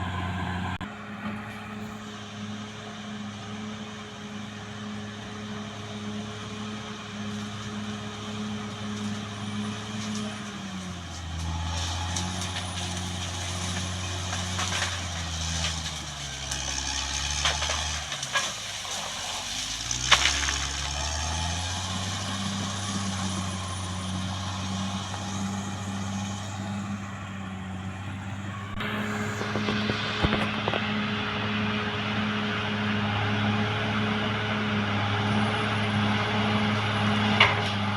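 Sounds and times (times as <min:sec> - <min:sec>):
bulldozer diesel engine lugging: 0:00.0 - 0:37.9.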